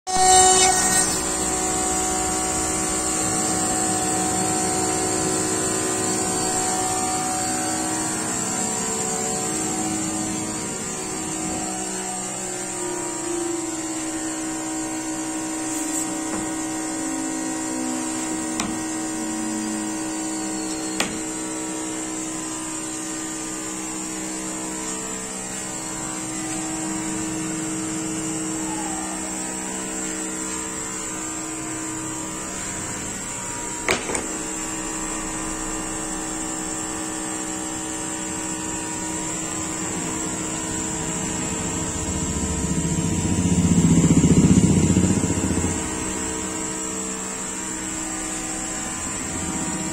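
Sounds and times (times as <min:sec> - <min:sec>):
electric machine hum with whine: 0:00.1 - 0:49.9.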